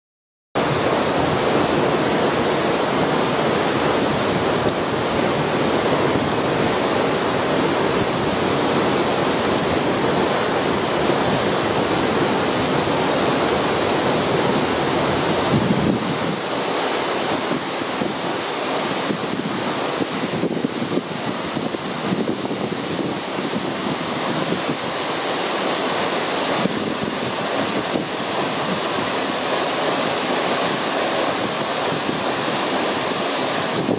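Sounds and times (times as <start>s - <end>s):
waterfall rushing: 0.6s - 33.9s.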